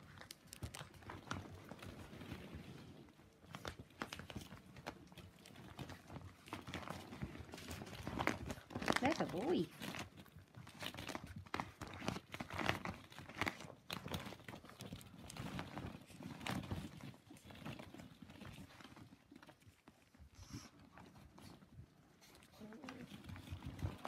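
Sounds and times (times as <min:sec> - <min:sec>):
plastic sheet crinkling: 0:00.0 - 0:20.2.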